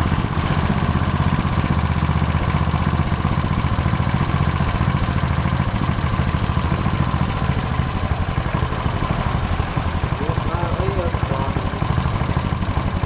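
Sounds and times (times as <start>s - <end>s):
petrol engine running: 0.0s - 13.0s.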